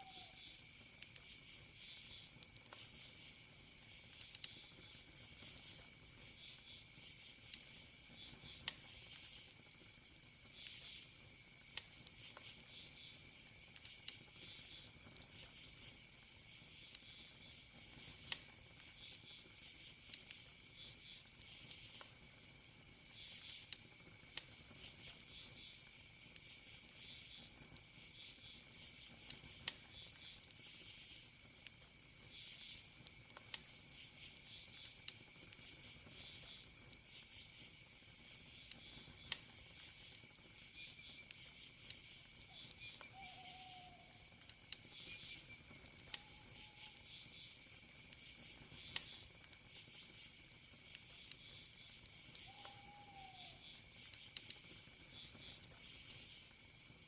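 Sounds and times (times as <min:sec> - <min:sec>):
campfire crackling and popping: 0:00.0 - 0:57.0
crickets chirping: 0:00.0 - 0:57.0
high insect trill: 0:00.0 - 0:57.0.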